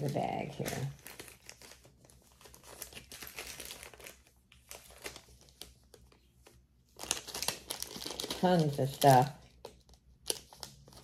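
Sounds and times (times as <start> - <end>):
bag crinkling: 0.0 - 6.1, 6.9 - 11.0.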